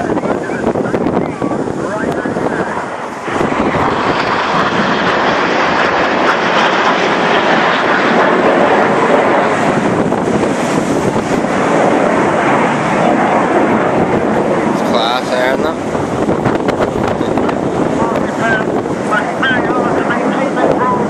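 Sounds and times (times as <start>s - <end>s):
jet engines roaring overhead: 0.0s - 21.0s.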